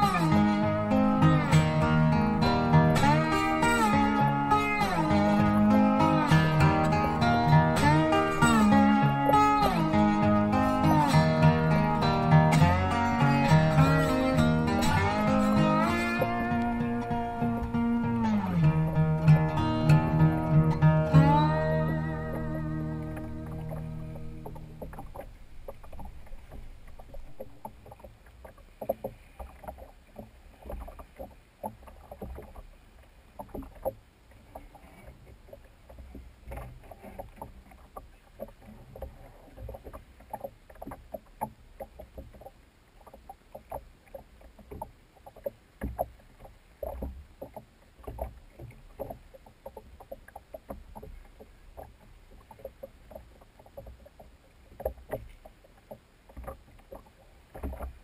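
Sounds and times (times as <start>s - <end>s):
waves slapping against boat hull: 0.0s - 58.0s.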